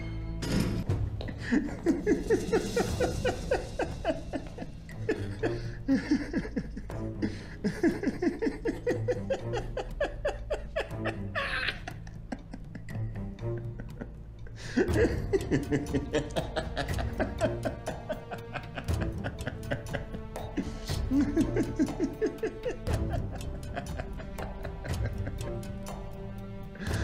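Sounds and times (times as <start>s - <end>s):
low background music: 0.0s - 27.0s
hearty laughter: 1.2s - 26.2s.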